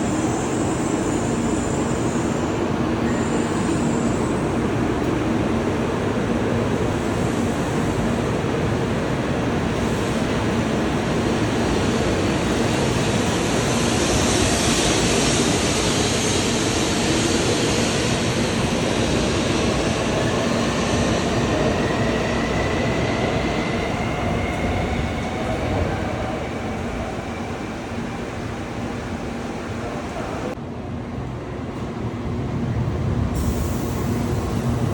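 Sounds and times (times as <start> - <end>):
train rushing through station: 0.0 - 34.9.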